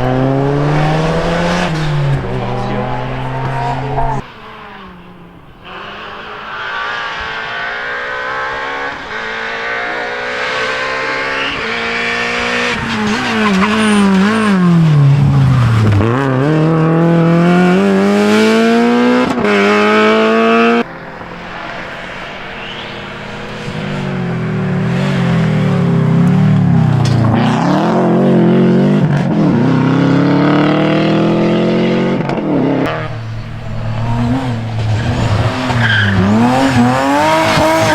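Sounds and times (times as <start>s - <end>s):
rally car engines revving: 0.0s - 37.9s.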